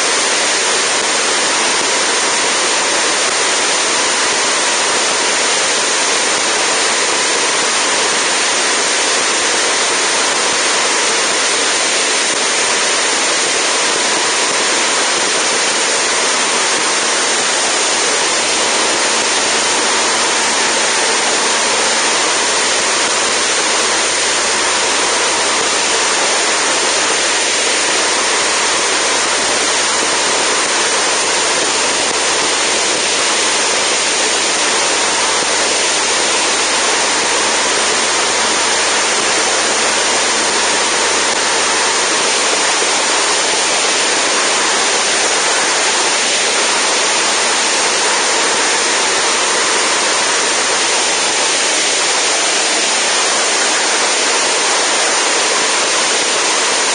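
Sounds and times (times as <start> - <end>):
plane engine and propeller: 0.0 - 56.9.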